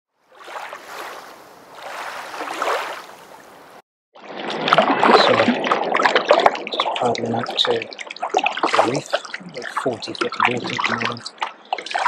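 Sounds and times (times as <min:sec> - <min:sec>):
paddles splashing in water: 0:00.2 - 0:12.0.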